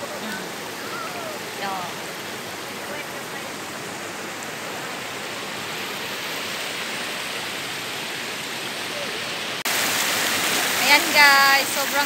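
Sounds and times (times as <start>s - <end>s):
creek water cascading over rock: 0.0s - 12.0s
waterfall rushing: 0.0s - 12.0s.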